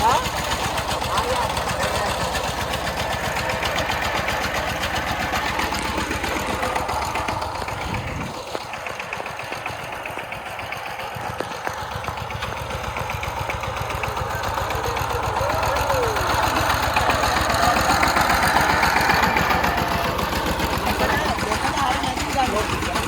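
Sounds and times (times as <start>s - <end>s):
small tractor engine chugging: 0.0s - 23.0s.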